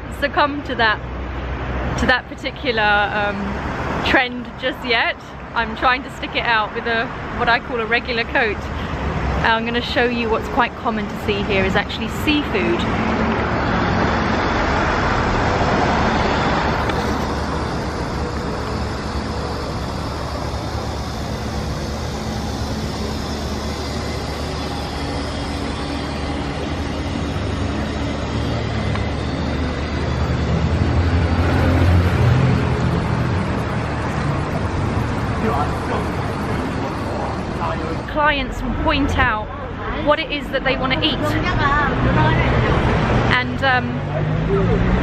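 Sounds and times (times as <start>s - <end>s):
street traffic rumble: 0.0s - 45.0s.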